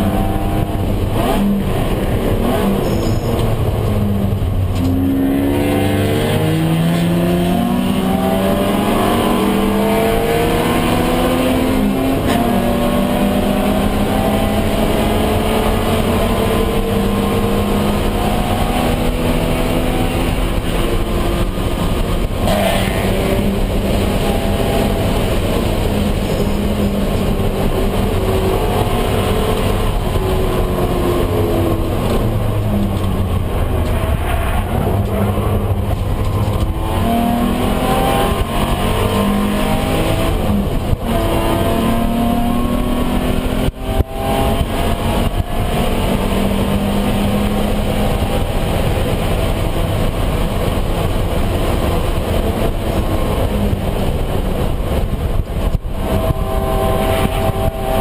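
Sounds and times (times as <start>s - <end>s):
race car engine revving: 0.0s - 58.0s
road and wind noise: 0.0s - 58.0s.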